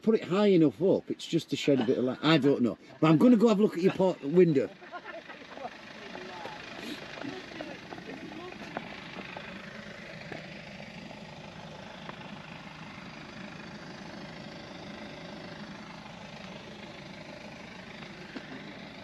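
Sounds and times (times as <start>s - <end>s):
engine running hum: 0.0s - 19.0s.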